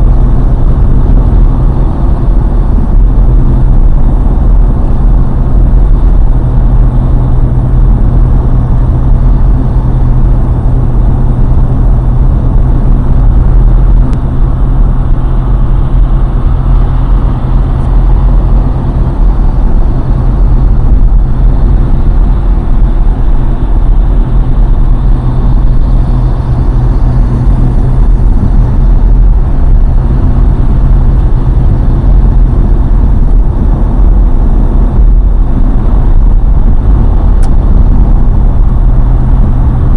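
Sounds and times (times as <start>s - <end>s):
low hum: 0.0s - 39.9s
road vehicle rumble: 0.0s - 39.9s.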